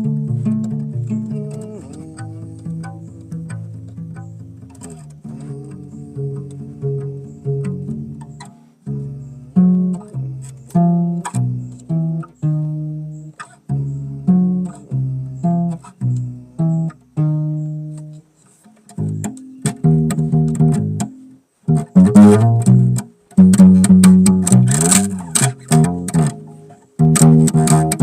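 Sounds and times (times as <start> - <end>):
solo bass guitar plucked notes: 0.0 - 28.0.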